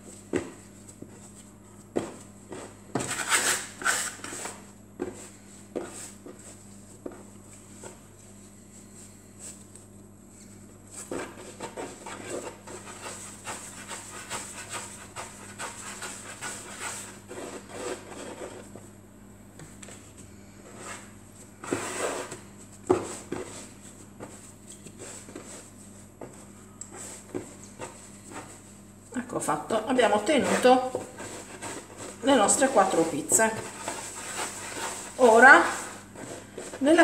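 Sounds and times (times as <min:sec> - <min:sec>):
hands kneading dough on wood: 0:00.0 - 0:37.0.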